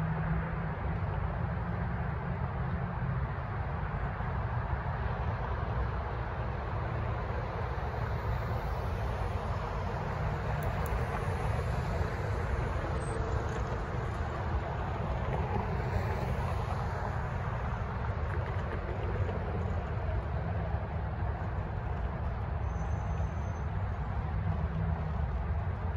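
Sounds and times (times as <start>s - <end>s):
cars driving past: 0.0s - 25.9s.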